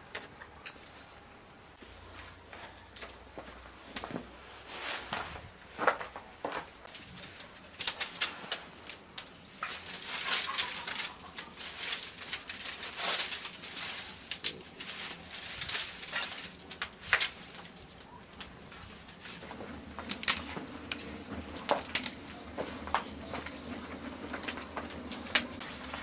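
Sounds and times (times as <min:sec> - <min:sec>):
wood fire crackling: 0:00.0 - 0:26.0
twigs snapping and rustling: 0:01.8 - 0:04.3, 0:05.6 - 0:26.0.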